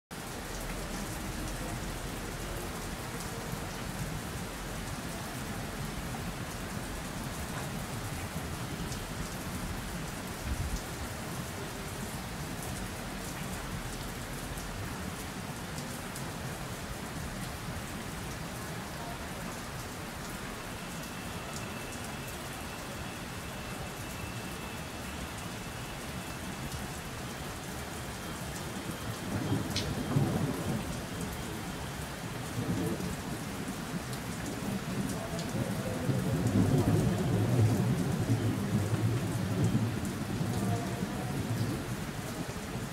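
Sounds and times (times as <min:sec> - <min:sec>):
steady rain: 0:00.1 - 0:42.9.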